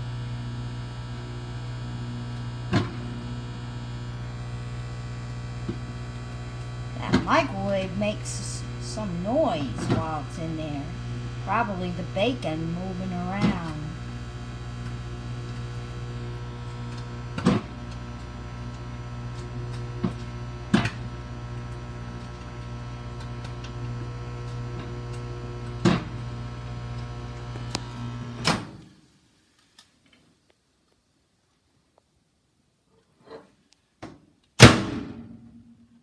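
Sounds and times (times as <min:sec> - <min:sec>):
microwave oven humming: 0:00.0 - 0:28.9.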